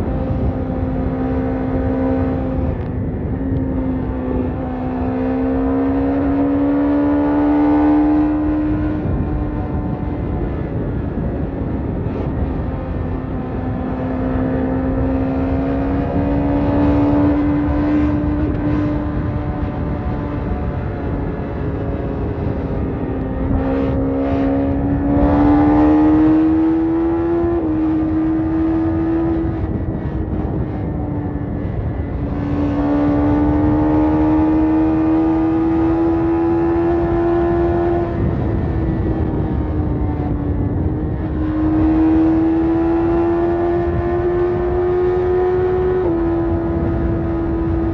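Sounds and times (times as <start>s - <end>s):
constant rushing noise: 0.0s - 47.9s
motorcycle engine revving high: 0.0s - 47.9s.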